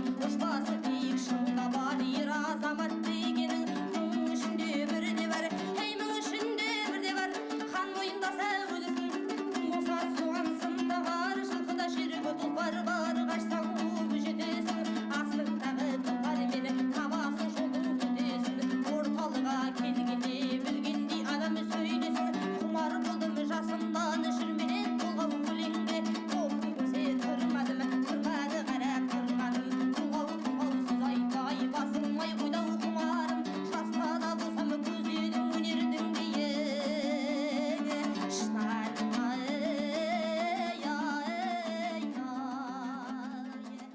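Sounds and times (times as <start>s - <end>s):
plucked strings music: 0.0s - 43.9s.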